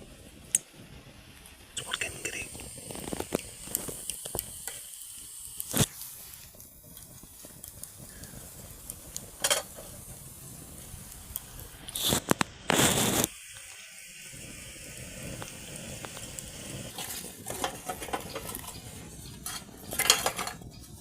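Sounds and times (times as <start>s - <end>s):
noisy fire burst: 0.0s - 21.0s
wood fire crackling and popping: 0.0s - 21.0s.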